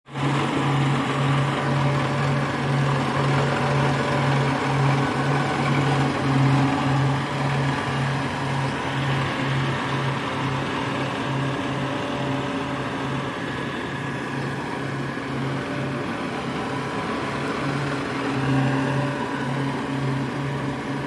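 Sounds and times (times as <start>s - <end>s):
harvesting machine engine running: 0.1s - 21.0s.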